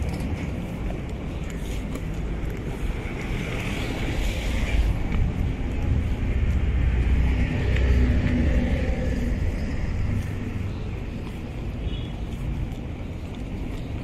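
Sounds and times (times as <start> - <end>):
vehicles rumbling: 0.0 - 14.0
wind on microphone: 0.0 - 14.0.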